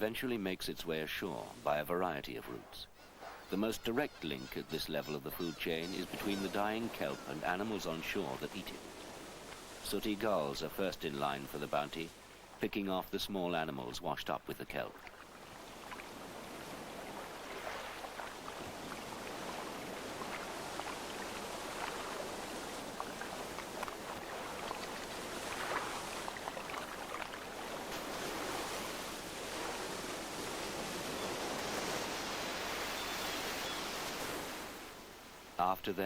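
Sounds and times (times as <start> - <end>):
surf washing over rocks: 0.9 - 2.2, 5.6 - 36.0.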